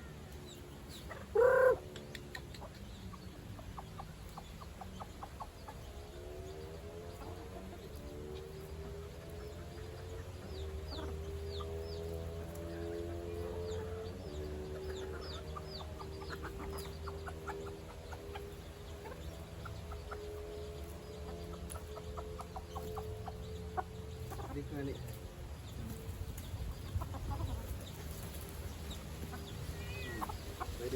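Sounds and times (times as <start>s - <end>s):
chickens clucking: 0.0s - 30.9s
small birds chirping: 0.0s - 30.9s.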